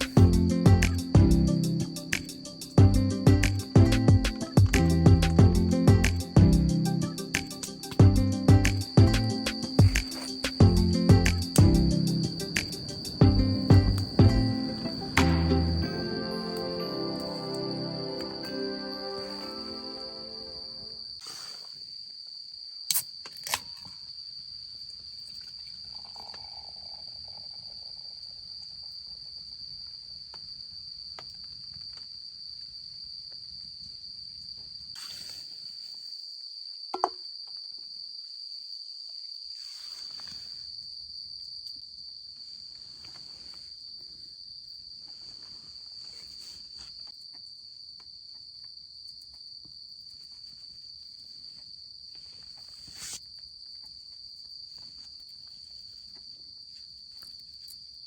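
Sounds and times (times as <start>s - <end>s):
insects trilling: 0.0s - 33.4s, 34.3s - 58.0s.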